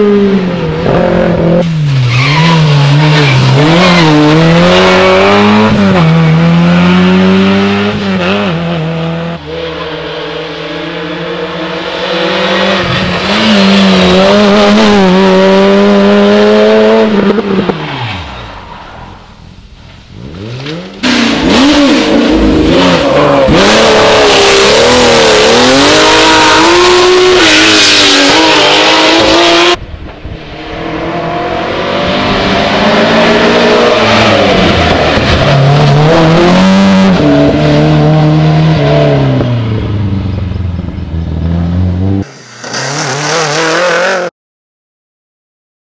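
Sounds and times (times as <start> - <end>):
rally cars passing at speed: 0.0 - 19.4, 20.1 - 44.3.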